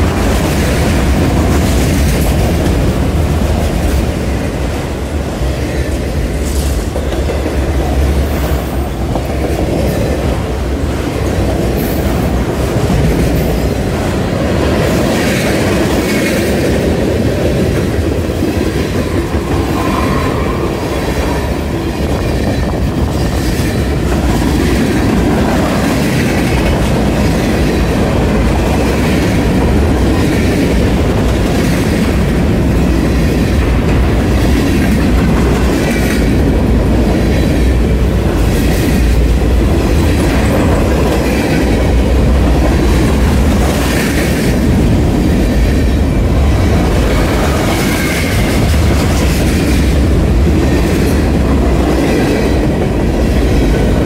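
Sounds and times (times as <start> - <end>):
clickety-clack over rail joints: 0.0 - 54.0
freight train wheels rumbling: 0.0 - 54.0.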